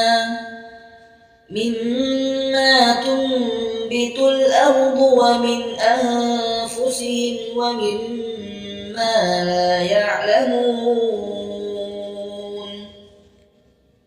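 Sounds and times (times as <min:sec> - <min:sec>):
melodic chanted recitation: 0:00.0 - 0:13.7.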